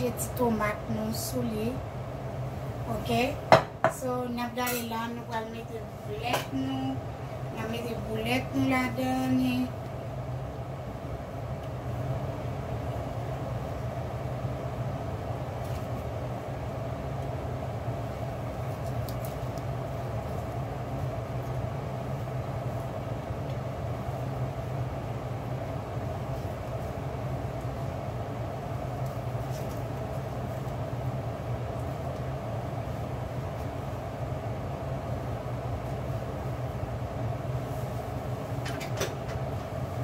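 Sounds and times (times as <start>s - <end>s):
low droning hum: 0.0s - 40.0s.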